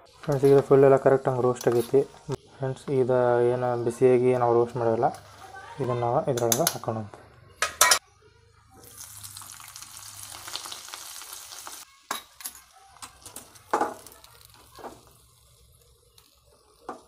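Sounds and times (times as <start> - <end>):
almonds sizzling in ghee: 0.0 - 5.8, 8.8 - 17.0.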